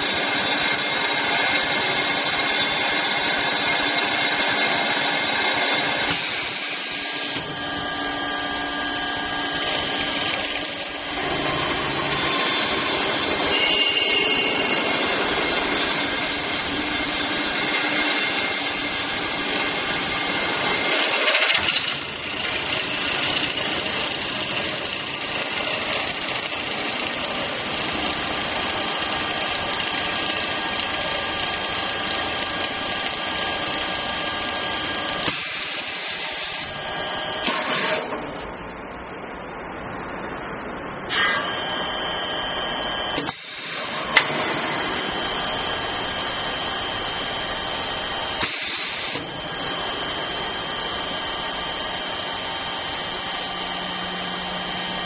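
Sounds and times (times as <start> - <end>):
cnc machine running: 0.0 - 38.5, 41.1 - 55.0.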